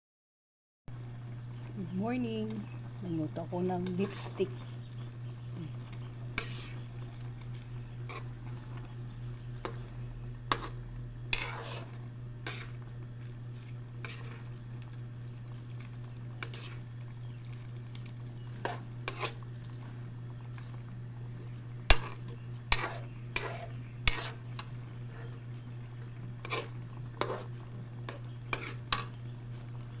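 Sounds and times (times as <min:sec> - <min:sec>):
steady low hum: 0:00.9 - 0:30.0.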